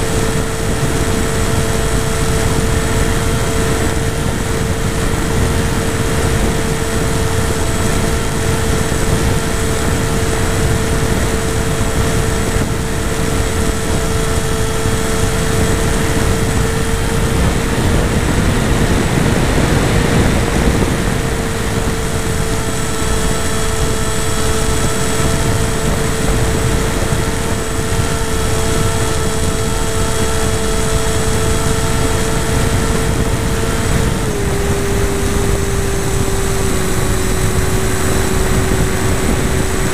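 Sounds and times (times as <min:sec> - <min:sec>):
model airplane motor humming: 0:00.0 - 0:39.9
wind noise: 0:00.0 - 0:39.9.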